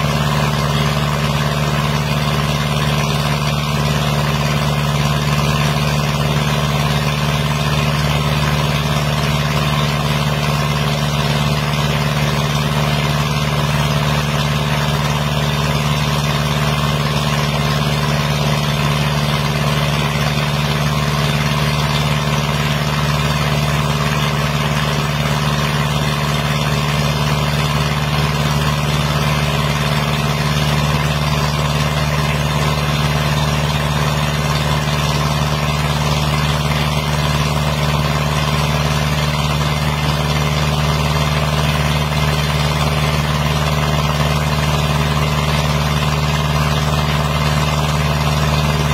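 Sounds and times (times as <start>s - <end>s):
pump droning: 0.0s - 48.9s.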